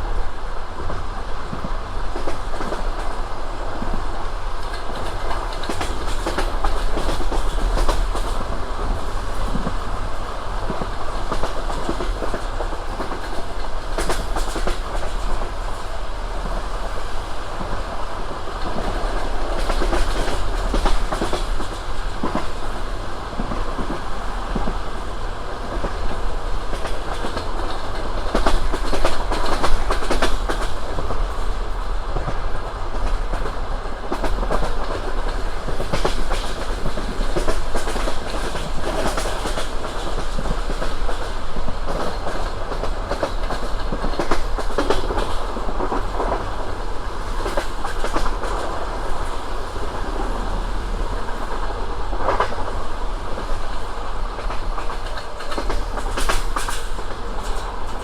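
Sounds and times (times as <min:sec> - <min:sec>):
train wheels rumbling: 0:00.0 - 0:58.0
wheels clacking on rail joints: 0:03.8 - 0:58.0.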